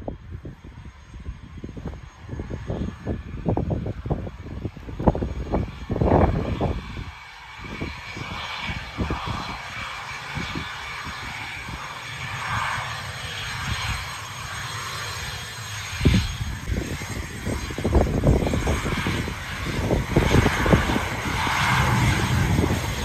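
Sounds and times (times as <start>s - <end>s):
jet engines running: 0.0s - 23.0s
wind on microphone: 0.0s - 23.0s.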